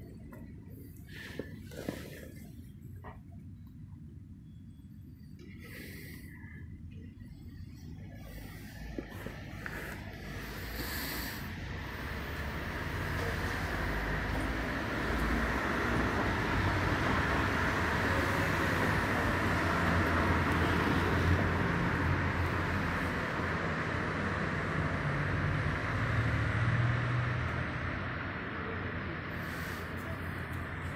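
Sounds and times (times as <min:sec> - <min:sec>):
outdoor rumble and hiss: 0:00.0 - 0:30.9.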